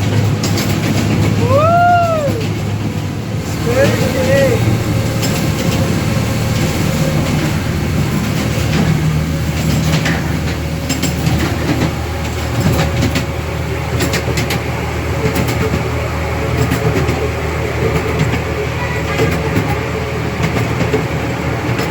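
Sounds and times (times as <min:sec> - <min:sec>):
miniature train rumbling: 0:00.0 - 0:21.9
wheels clicking over rail joints: 0:00.0 - 0:21.9.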